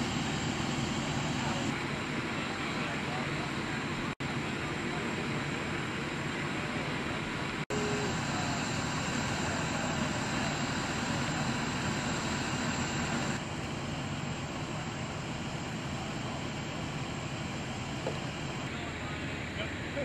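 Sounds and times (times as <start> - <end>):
fire truck engines idling: 0.0 - 20.0.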